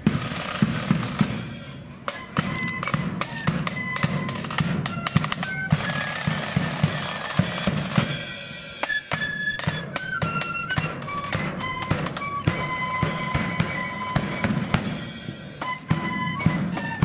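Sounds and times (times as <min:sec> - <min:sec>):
flutes playing melody: 0:00.0 - 0:17.0
rattling side drums: 0:00.0 - 0:17.0.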